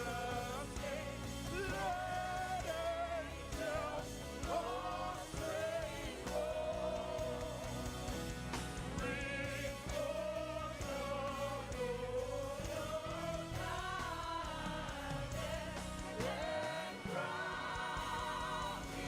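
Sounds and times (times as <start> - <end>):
band with steady beat: 0.0 - 19.0
lead voice and choir singing: 0.0 - 19.0.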